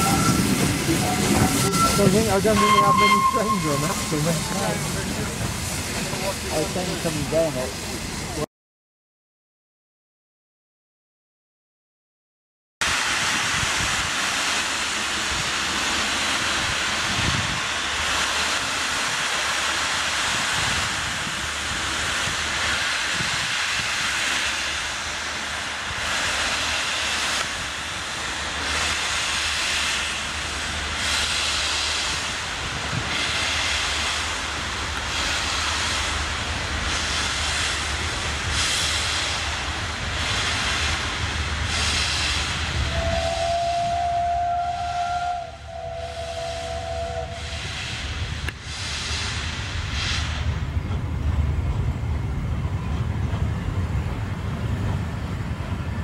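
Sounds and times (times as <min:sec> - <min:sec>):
steam hissing: 0:00.0 - 0:08.5, 0:12.8 - 0:56.0.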